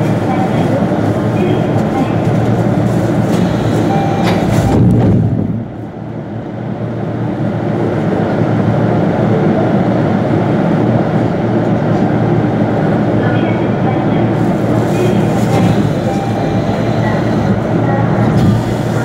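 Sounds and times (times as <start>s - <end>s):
monorail car hum: 0.0s - 19.0s.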